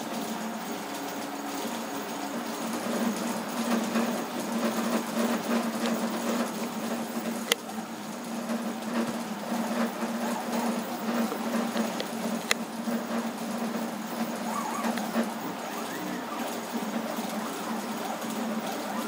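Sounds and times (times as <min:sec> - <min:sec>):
steady hum: 0:00.0 - 0:19.0
stepper motors whirring: 0:01.9 - 0:19.0.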